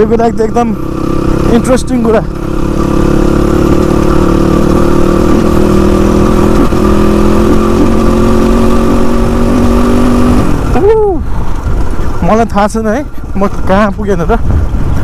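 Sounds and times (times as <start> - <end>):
low wind rumble: 0.0 - 15.0
motorcycle engine running: 0.0 - 15.0.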